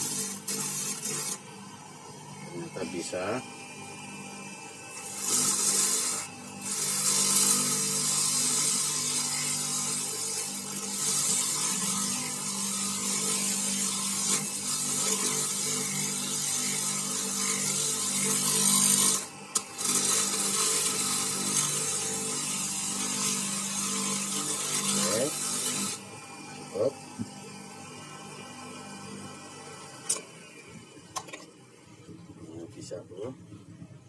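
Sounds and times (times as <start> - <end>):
shredder rasping coconut husk: 0.0 - 30.6.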